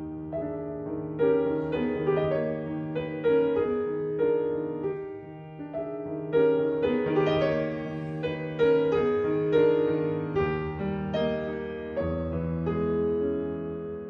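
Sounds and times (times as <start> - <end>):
slow piano piece: 0.0 - 14.0.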